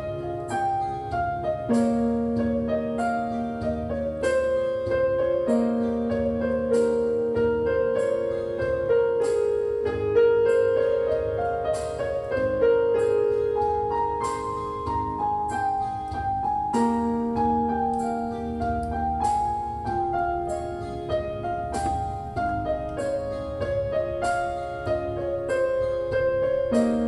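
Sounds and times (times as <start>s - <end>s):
piano notes and chords: 0.0s - 27.0s.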